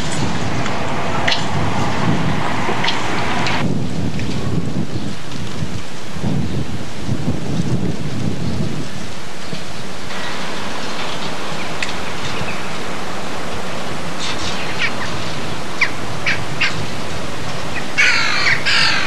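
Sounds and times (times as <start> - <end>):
steady rushing outdoor noise: 0.0 - 19.0.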